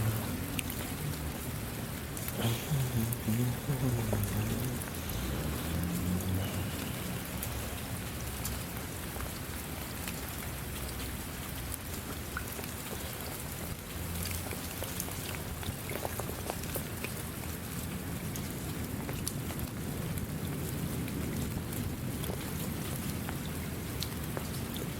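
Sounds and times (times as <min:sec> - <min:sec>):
raindrops ticking on surface: 0:00.0 - 0:24.9
steady rain hiss: 0:00.0 - 0:24.9.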